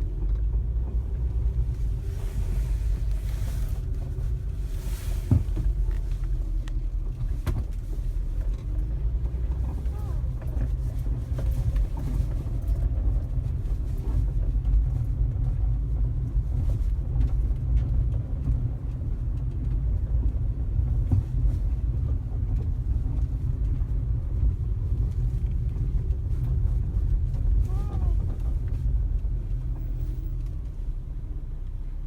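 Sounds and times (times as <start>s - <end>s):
car cabin road rumble: 0.0s - 32.0s.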